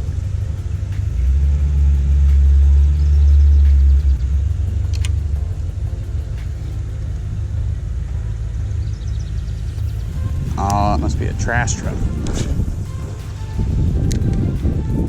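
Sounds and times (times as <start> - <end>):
deep vehicle engine rumble: 0.0 - 15.0.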